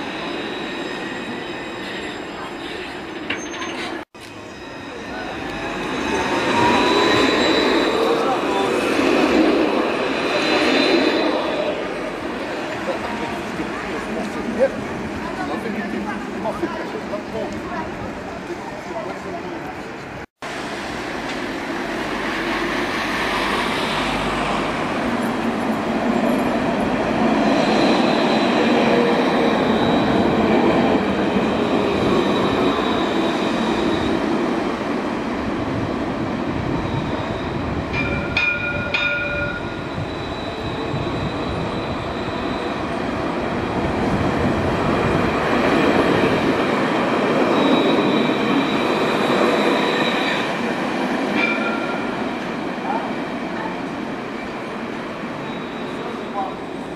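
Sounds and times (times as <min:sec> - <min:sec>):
tram wheels rumbling on rail: 0:00.0 - 0:56.9.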